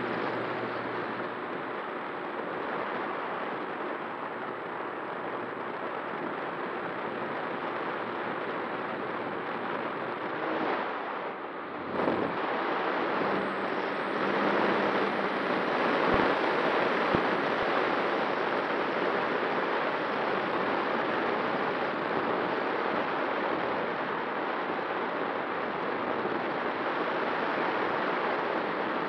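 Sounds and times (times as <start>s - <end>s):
wind rush: 0.0s - 24.3s
model plane propeller noise: 0.0s - 29.0s.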